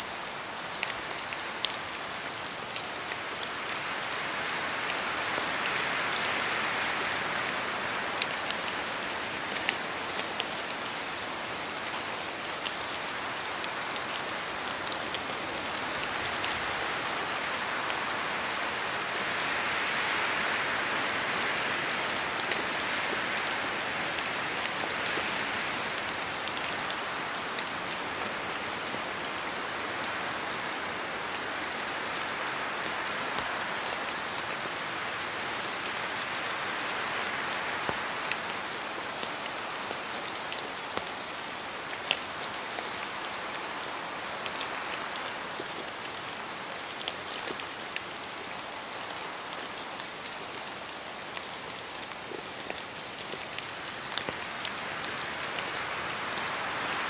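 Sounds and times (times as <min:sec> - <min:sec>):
rain drops ticking on surfaces: 0:00.0 - 0:57.0.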